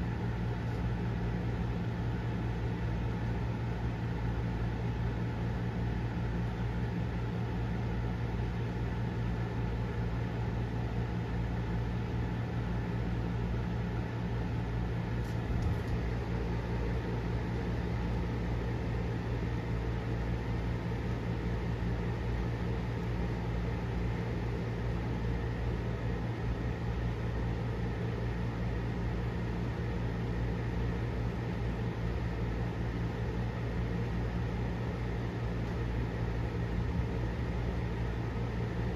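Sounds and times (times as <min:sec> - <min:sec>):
low machine hum with hiss: 0:00.0 - 0:38.9.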